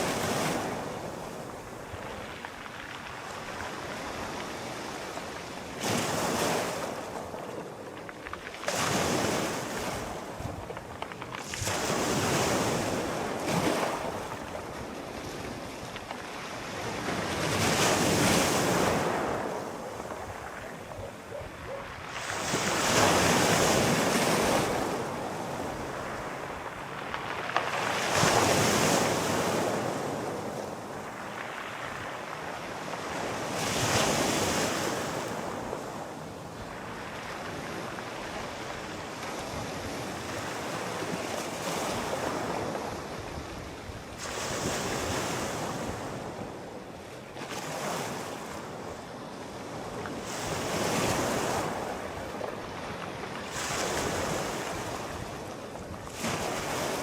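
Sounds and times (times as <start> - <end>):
sea waves washing ashore: 0.0 - 57.0.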